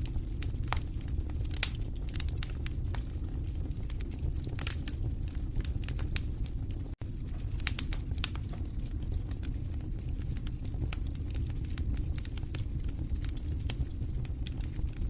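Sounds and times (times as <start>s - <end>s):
fire burning low rumble: 0.0s - 15.0s
fire crackling and popping: 0.0s - 15.0s.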